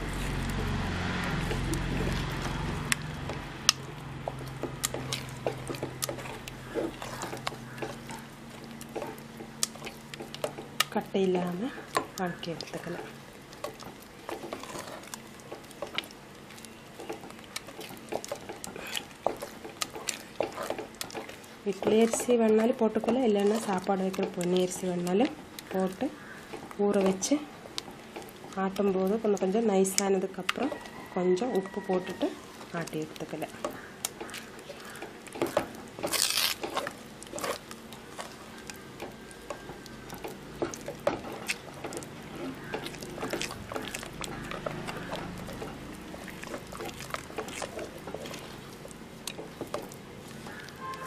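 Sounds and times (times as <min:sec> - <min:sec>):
dough squelching in bowl: 0:00.0 - 0:51.0.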